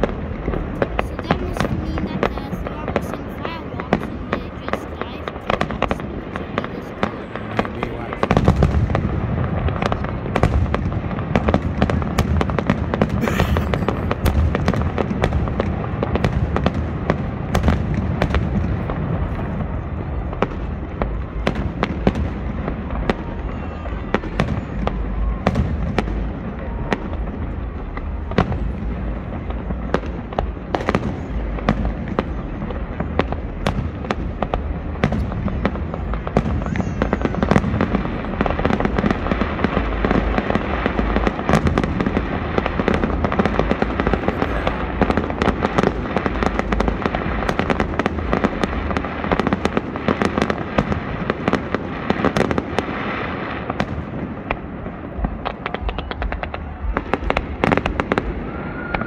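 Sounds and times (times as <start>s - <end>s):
fireworks bursting with sharp bangs: 0.0s - 59.0s
fireworks crackling: 0.0s - 59.0s.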